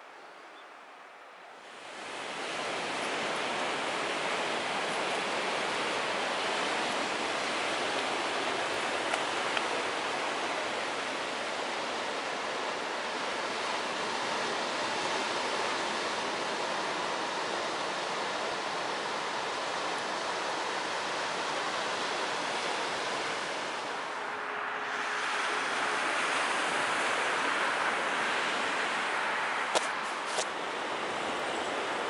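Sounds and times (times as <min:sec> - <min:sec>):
wind: 0:00.0 - 0:32.0
rough surf breaking on beach: 0:01.6 - 0:32.0.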